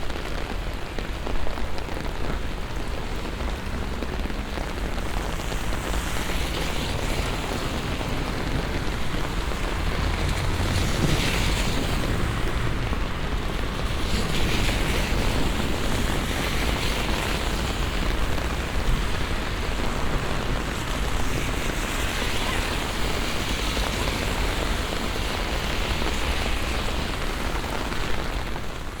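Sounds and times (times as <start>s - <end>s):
heavy rain on street: 0.0s - 29.0s.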